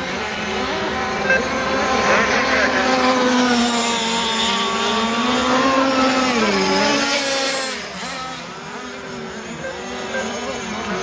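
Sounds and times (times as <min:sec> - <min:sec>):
model boat engines screaming: 0:00.0 - 0:11.0.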